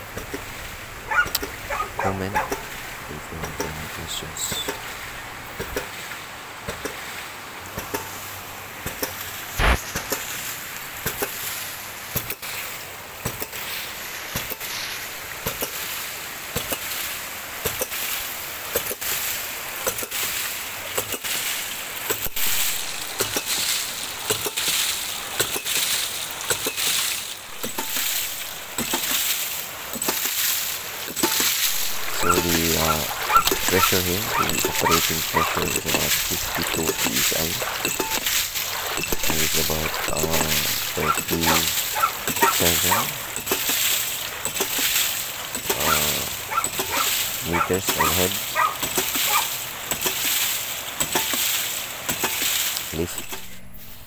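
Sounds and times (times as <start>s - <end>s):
water rushing and splashing: 0.0s - 54.0s.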